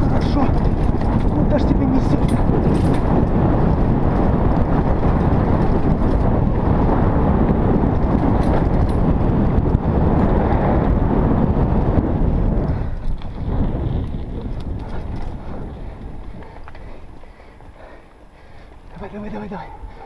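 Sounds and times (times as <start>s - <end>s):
bike tyres rumbling over dirt: 0.0s - 19.6s
wind buffeting microphone: 0.0s - 20.0s.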